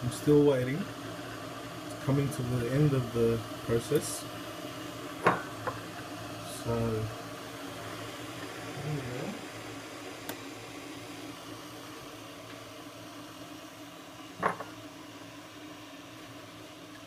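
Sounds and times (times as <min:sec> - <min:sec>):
coffee machine humming: 0:00.0 - 0:17.0.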